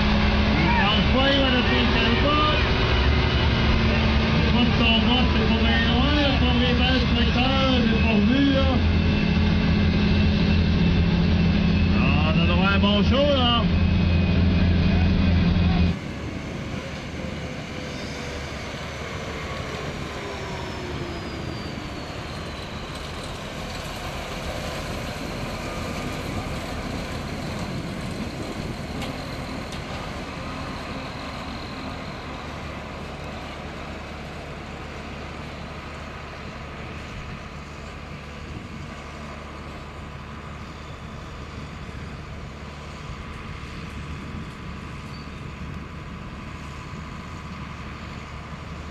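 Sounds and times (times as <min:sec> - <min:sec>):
tractor engine rumble: 0:00.0 - 0:48.9.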